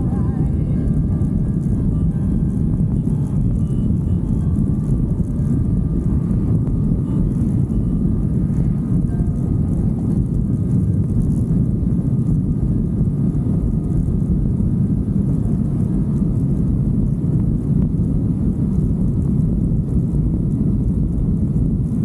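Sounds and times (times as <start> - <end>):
wind rush: 0.0 - 22.0.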